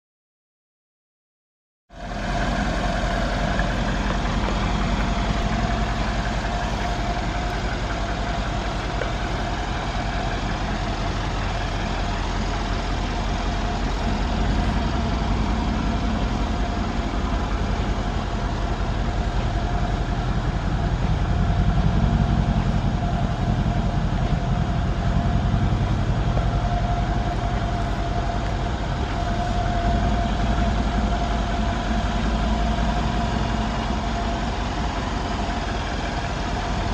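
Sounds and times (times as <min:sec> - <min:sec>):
car engine idling: 0:01.9 - 0:36.9
thin steady whine: 0:01.9 - 0:36.9.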